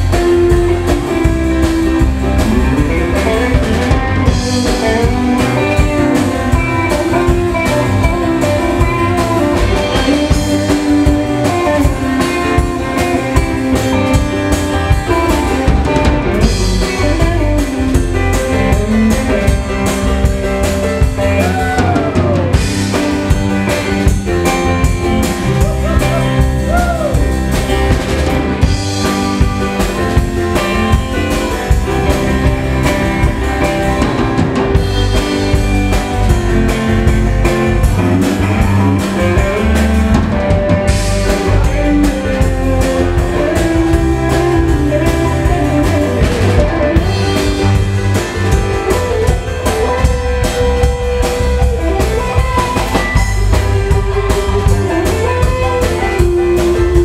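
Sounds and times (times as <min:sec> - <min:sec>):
drum kit beat: 0:00.0 - 0:57.0
electric guitar bending notes: 0:00.0 - 0:57.0
live rock band playing: 0:00.0 - 0:57.0.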